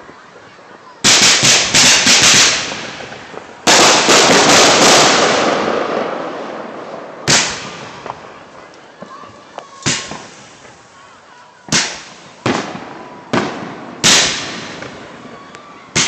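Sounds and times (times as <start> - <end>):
fireworks exploding: 0.0 - 16.0.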